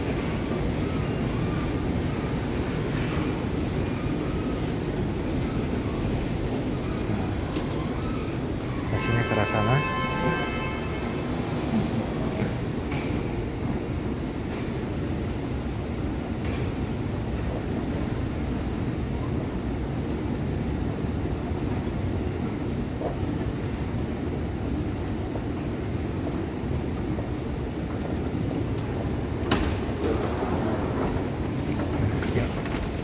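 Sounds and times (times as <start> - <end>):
high-pitched whine: 0.0 - 33.0.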